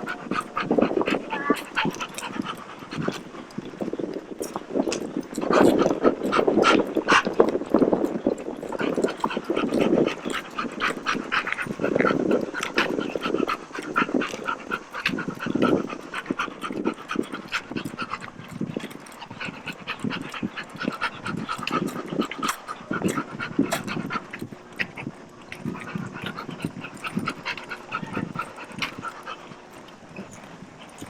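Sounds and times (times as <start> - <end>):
dog panting: 0.0 - 31.0.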